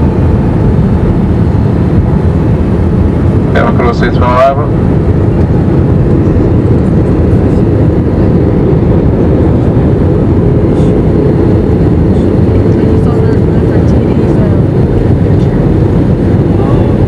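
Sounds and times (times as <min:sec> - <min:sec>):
airliner cabin engine and airflow noise: 0:00.0 - 0:17.0
faint steady hum: 0:00.0 - 0:17.0.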